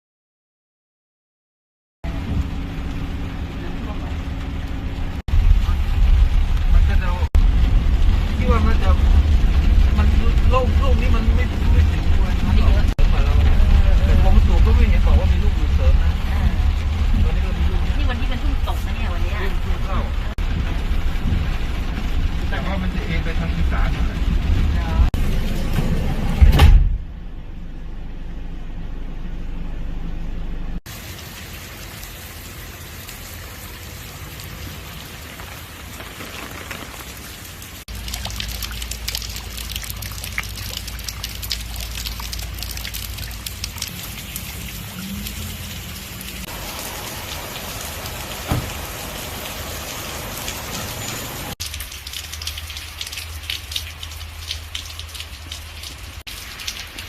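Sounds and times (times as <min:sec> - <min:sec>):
steady rain pattering: 0:02.0 - 0:26.4, 0:30.9 - 0:57.0.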